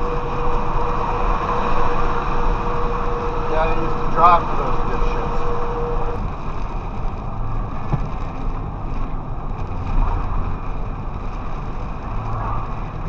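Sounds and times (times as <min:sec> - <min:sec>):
rain hiss: 0:00.0 - 0:13.0
truck engine and road rumble: 0:00.0 - 0:13.0.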